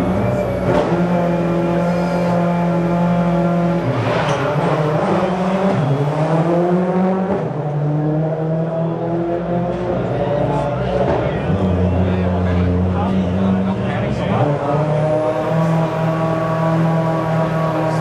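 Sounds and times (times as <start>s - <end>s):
rally car engine running hard: 0.0s - 18.0s.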